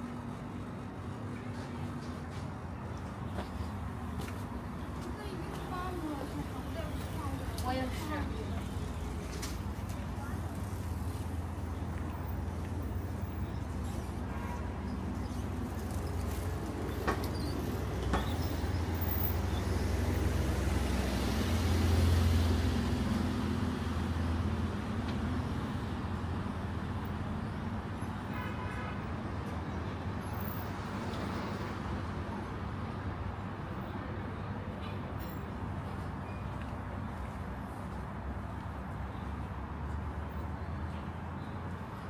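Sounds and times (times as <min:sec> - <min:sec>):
street traffic noise: 0:00.0 - 0:42.0.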